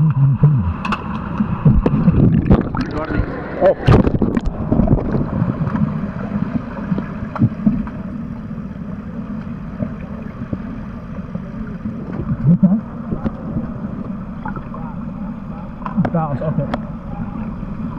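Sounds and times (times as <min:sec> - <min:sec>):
underwater rush of water and bubbles: 0:00.0 - 0:17.9.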